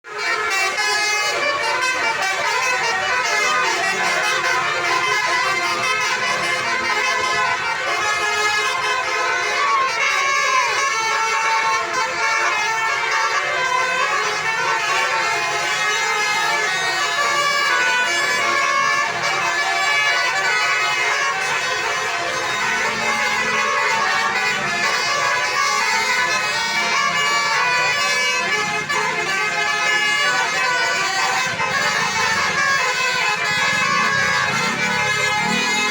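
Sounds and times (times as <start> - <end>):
bus multi-tone horn: 0.0 - 35.9.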